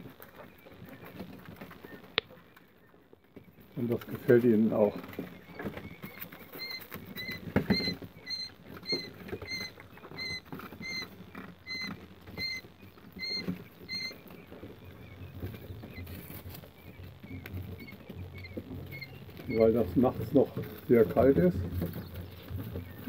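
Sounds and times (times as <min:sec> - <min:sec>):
chicks peeping: 0:00.0 - 0:23.0
rustling and pecking in straw: 0:00.0 - 0:23.0.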